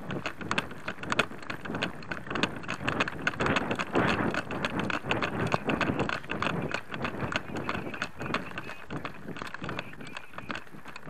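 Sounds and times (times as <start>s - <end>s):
gear clicking and rattling: 0.0s - 11.0s.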